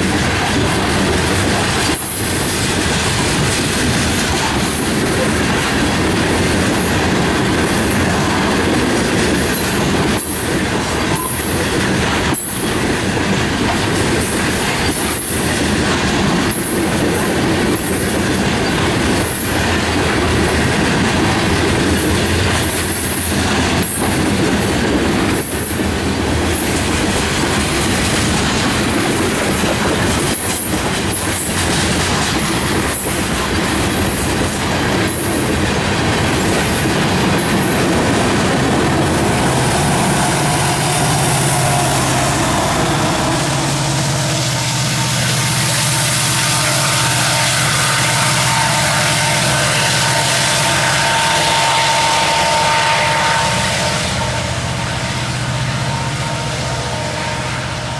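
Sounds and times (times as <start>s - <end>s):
diesel locomotive engine drone: 0.0s - 57.9s.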